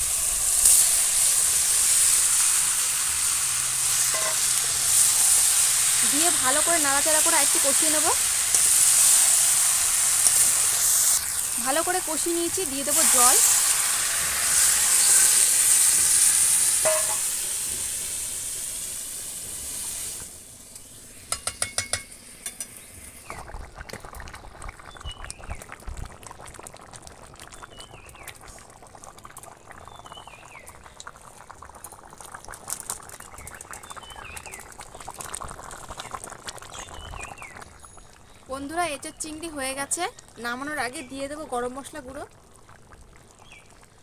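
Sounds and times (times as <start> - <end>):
curry bubbling: 0.0 - 18.1, 22.7 - 44.0
water hissing in hot pan: 0.0 - 43.9.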